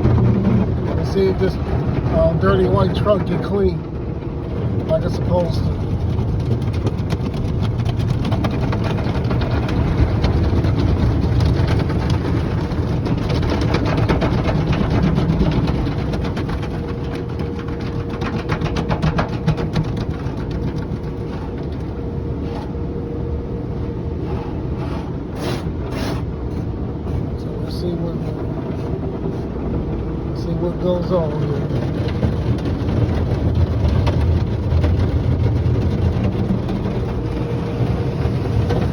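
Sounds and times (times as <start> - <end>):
car wash water spray and machinery: 0.0 - 38.9
steady hum: 0.0 - 38.9.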